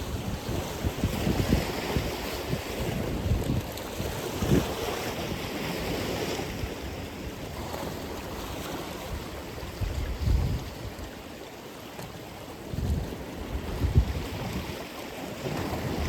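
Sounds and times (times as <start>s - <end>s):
wind buffeting microphone: 0.0s - 11.2s, 12.6s - 16.0s.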